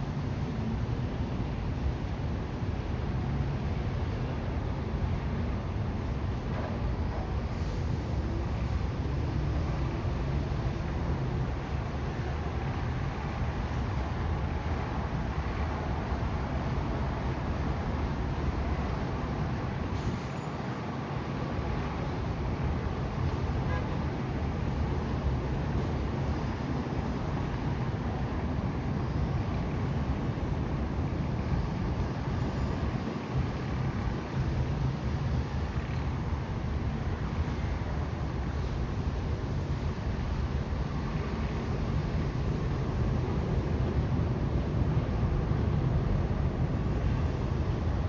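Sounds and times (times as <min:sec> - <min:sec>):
city traffic rumble: 0:00.0 - 0:48.0.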